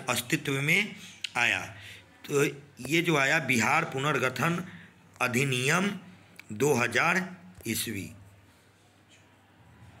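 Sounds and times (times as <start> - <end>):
man speaking: 0.0 - 8.3.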